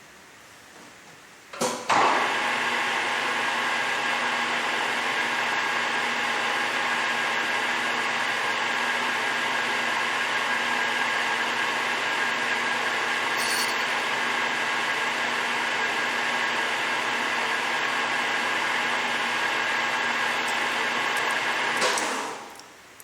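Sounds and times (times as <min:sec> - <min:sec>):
lathe whirring: 0:02.0 - 0:22.5.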